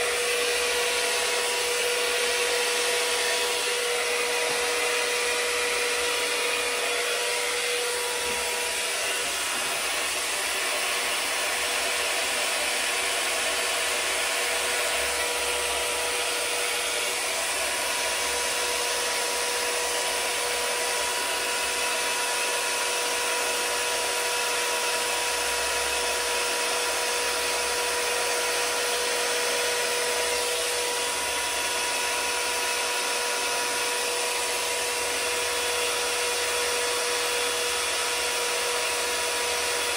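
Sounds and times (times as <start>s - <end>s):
hairdryer running: 0.0s - 39.9s.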